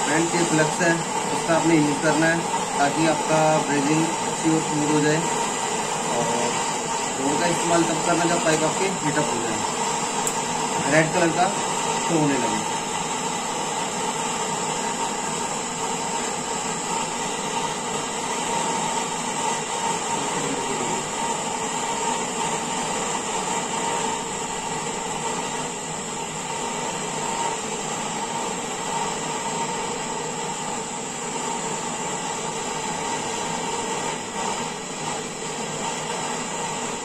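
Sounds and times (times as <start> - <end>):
gas torch hissing: 0.0 - 37.0.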